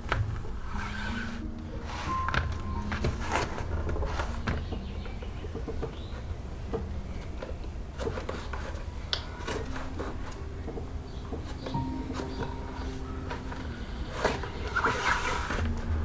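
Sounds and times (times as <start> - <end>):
leather scraping and squeaking: 0.0 - 16.0.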